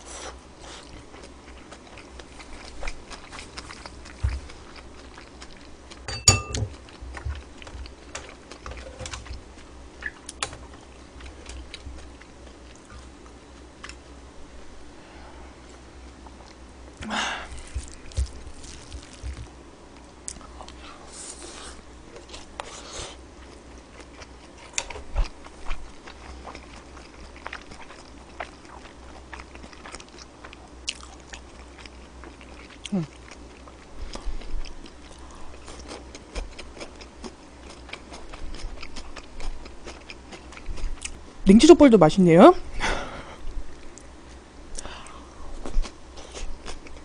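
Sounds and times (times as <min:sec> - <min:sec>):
person chewing food: 0:00.1 - 0:14.1, 0:17.4 - 0:41.3, 0:43.4 - 0:47.0.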